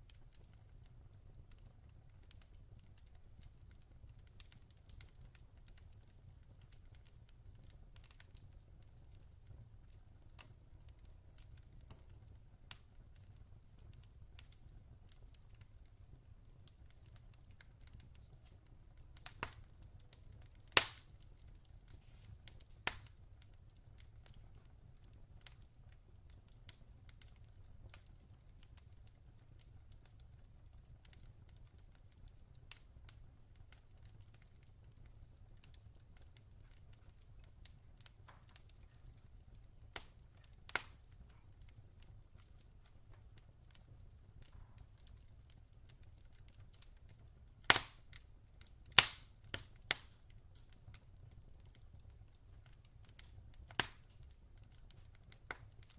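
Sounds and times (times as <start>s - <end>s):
log fire crackling and popping: 0.0s - 55.9s.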